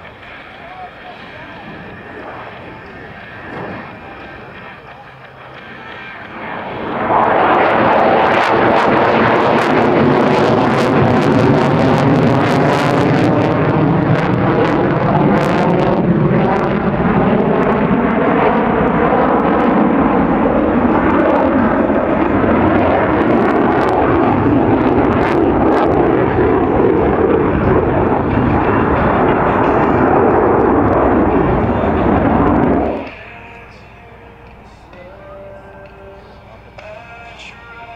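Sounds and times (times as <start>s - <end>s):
loud jet engine noise: 0.0s - 37.9s.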